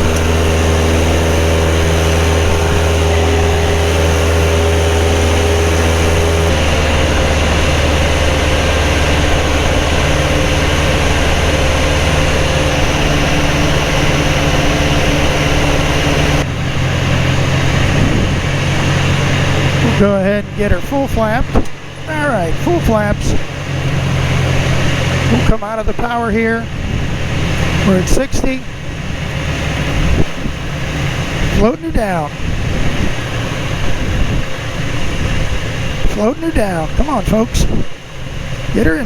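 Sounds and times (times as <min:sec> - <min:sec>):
light aircraft engine and propeller: 0:00.0 - 0:39.0.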